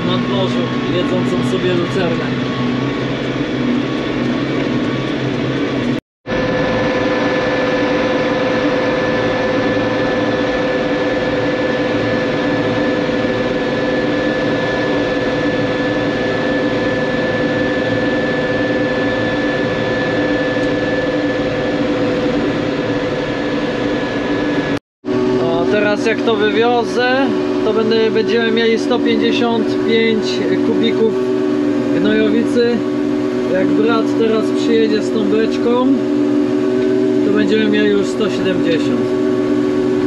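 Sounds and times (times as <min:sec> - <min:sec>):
steady high whine: 0:00.0 - 0:40.0.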